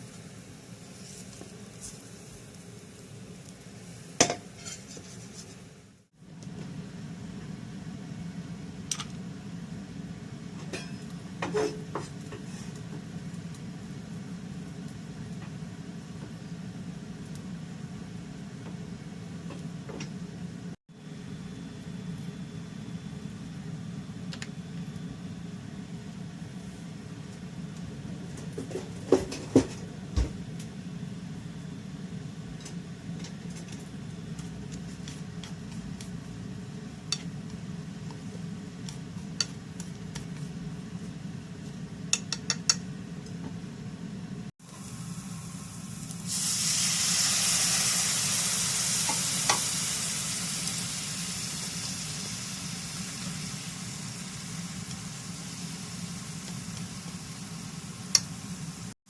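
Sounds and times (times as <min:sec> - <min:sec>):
frying sizzle in a pan: 0:00.0 - 0:43.6, 0:44.6 - 0:59.0.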